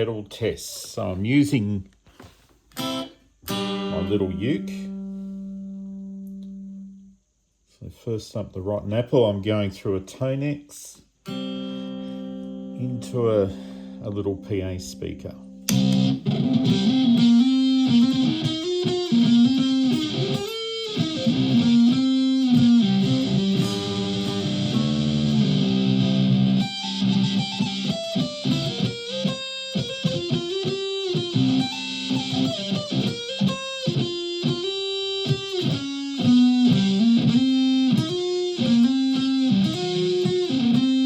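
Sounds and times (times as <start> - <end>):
fuzz-distorted electric ukulele riff: 2.8 - 6.9, 11.2 - 41.0.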